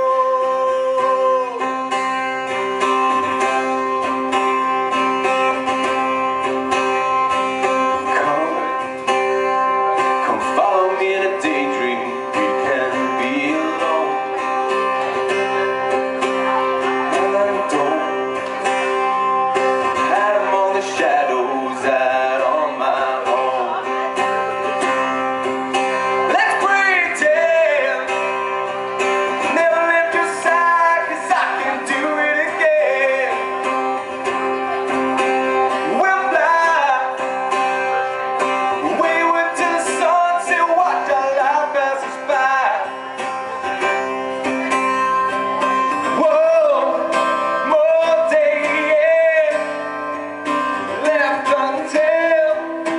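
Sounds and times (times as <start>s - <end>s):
man singing: 0.0s - 43.9s, 45.3s - 52.9s
strummed acoustic guitar: 0.0s - 52.9s.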